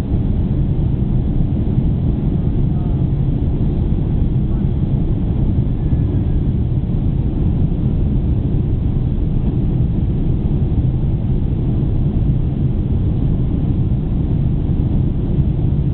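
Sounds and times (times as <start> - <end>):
airplane cabin engine drone: 0.0 - 15.9.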